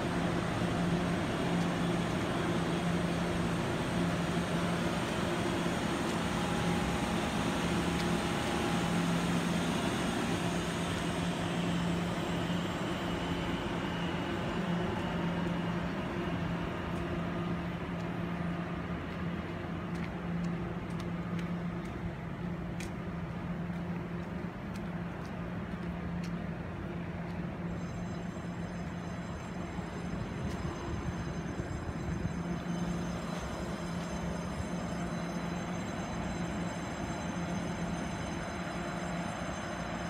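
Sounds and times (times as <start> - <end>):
electric train running: 0.0 - 40.0.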